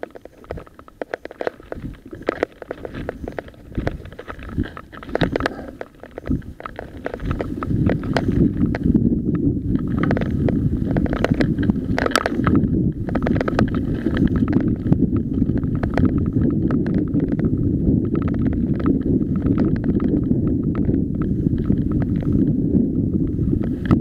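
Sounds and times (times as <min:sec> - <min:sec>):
tyres rumbling on gravel: 0:00.0 - 0:22.5
bike clicks and rattles: 0:00.0 - 0:22.6, 0:23.2 - 0:24.0
wind on microphone: 0:00.0 - 0:24.0.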